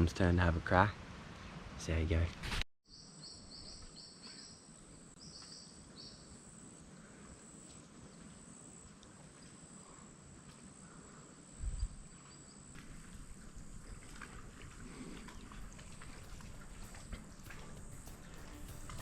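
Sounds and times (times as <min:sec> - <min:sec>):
insect chirps: 0:02.9 - 0:19.0.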